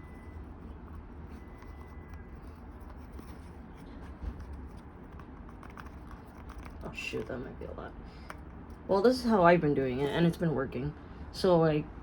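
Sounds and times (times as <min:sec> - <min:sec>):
faint rustling and handling: 0:00.0 - 0:10.1.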